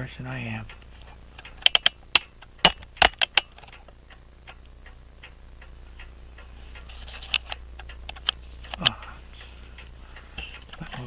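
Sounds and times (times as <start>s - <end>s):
clock ticking: 0.0s - 11.0s
sharp irregular clicks: 0.3s - 11.0s.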